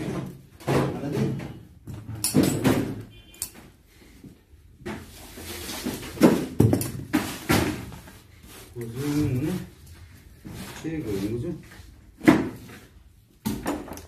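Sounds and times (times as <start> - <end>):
hand and wire handling noise: 0.0 - 14.0.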